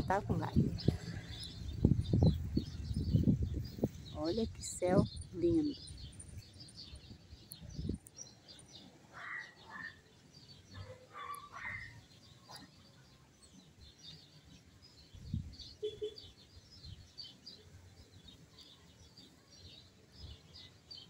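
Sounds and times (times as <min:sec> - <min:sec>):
small birds twittering: 0:00.0 - 0:21.0.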